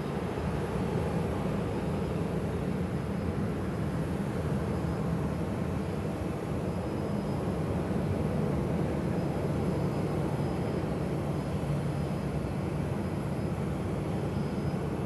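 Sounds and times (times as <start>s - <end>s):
faint high engine whine: 0.0s - 15.0s.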